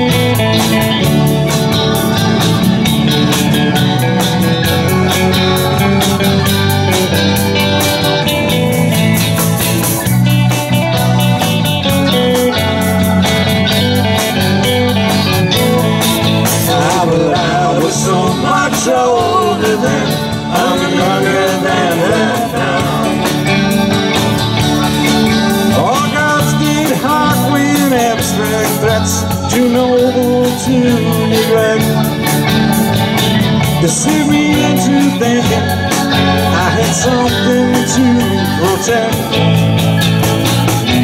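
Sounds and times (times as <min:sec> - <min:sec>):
bass guitar: 0:00.0 - 0:41.0
drums: 0:00.0 - 0:41.0
keyboard: 0:00.0 - 0:41.0
lead guitar with bending notes: 0:00.0 - 0:41.0.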